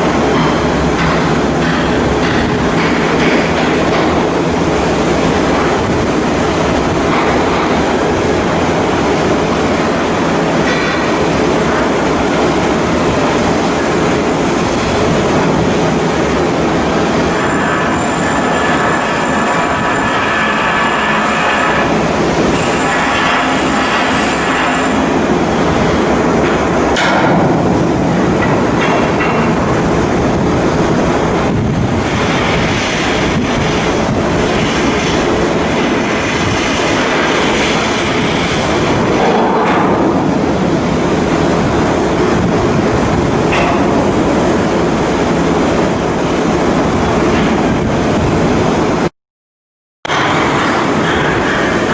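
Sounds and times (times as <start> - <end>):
loud machinery noise: 0.0 - 49.1, 50.1 - 51.9.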